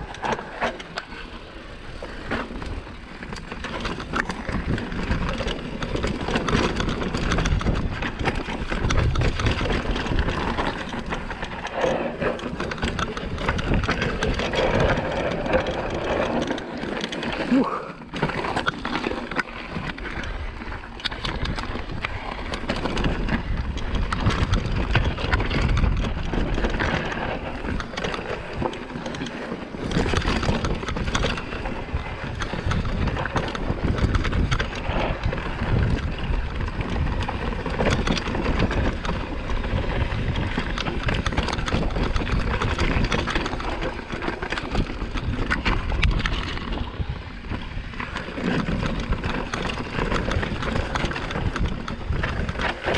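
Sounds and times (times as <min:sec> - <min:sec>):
wind buffeting microphone: 0:00.0 - 0:18.6, 0:19.6 - 0:52.9
bike rattling: 0:00.0 - 0:52.9.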